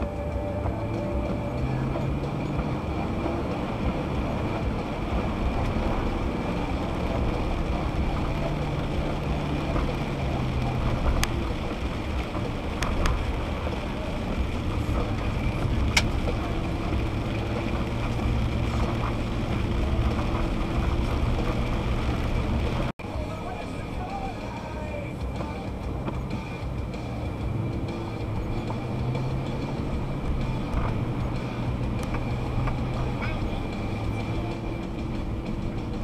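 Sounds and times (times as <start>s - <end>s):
car engine hum: 0.0s - 36.0s
road noise on wet road: 0.0s - 36.0s.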